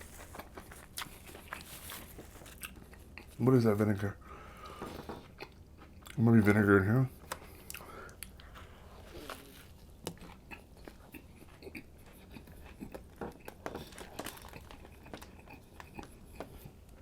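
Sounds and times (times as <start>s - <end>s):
person chewing sandwich: 0.0s - 3.5s, 4.4s - 17.0s.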